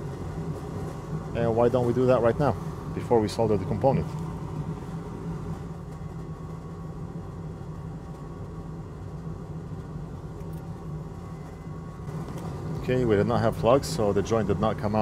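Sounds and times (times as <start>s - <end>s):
motor or fan humming: 0.0s - 15.0s.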